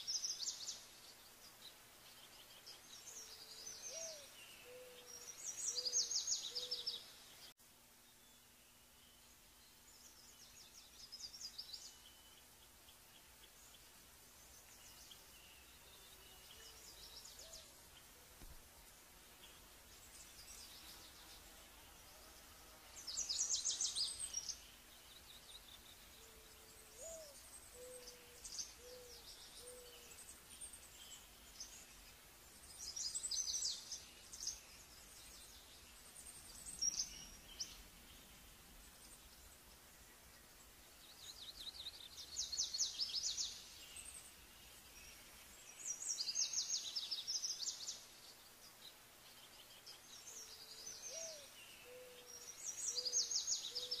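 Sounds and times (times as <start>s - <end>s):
birds trilling chirps: 0.0s - 54.0s
faint outdoor hiss: 0.0s - 54.0s.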